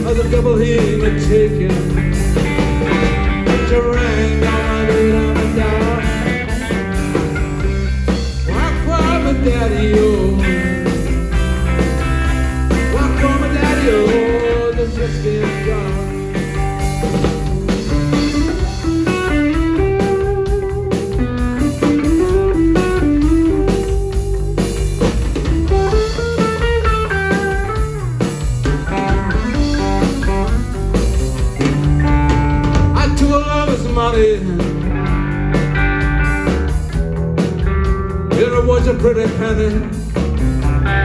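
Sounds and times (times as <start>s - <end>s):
bass guitar: 0.0s - 41.0s
drums: 0.0s - 41.0s
electric guitar lead: 0.0s - 41.0s.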